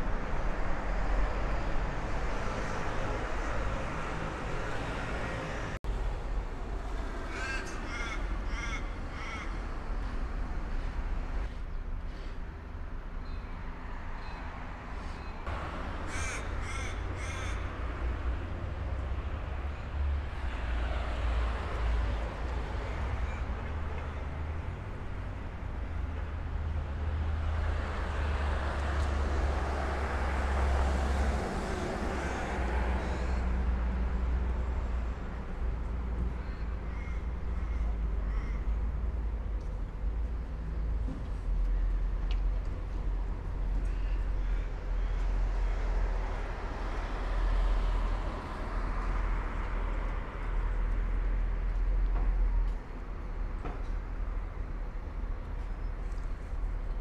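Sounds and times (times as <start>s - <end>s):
cars passing on wet road: 0.0s - 11.5s, 14.9s - 36.4s, 38.0s - 56.8s.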